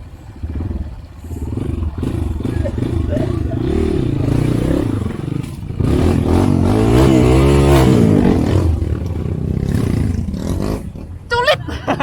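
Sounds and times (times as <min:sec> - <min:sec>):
motorcycle engine revving: 0:00.0 - 0:11.3.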